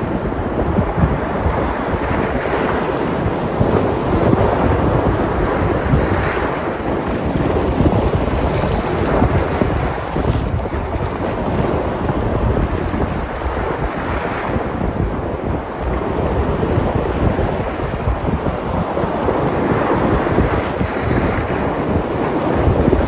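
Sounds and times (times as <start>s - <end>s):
surf breaking on shore: 0.0s - 23.0s
wind buffeting microphone: 0.0s - 23.0s.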